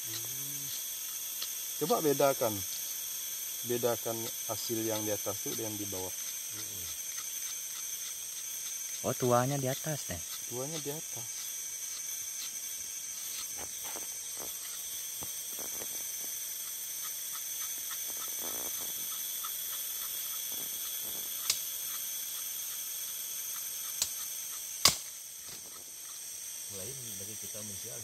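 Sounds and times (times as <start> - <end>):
forest insects chorus: 0.0 - 28.0.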